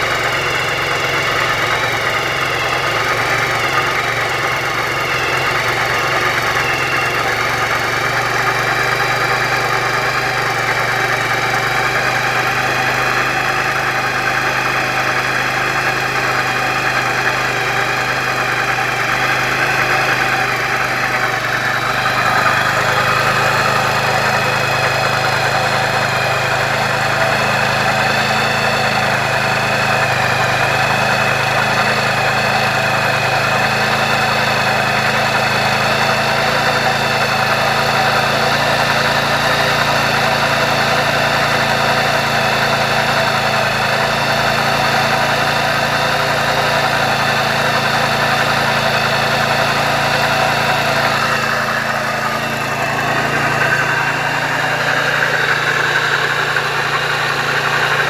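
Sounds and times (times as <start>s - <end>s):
scooter engine idling: 0.0s - 58.0s.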